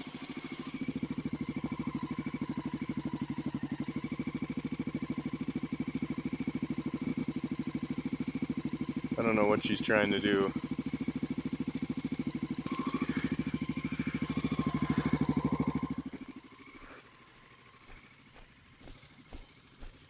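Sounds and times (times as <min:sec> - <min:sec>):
dirt bike engine running slowly: 0:00.0 - 0:20.0.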